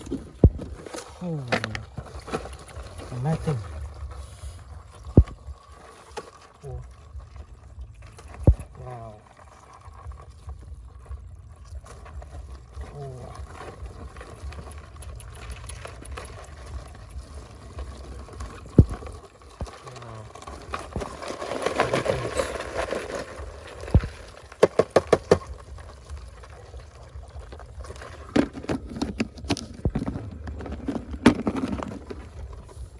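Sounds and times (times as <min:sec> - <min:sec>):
mud squelching and sloshing: 0:00.0 - 0:32.9.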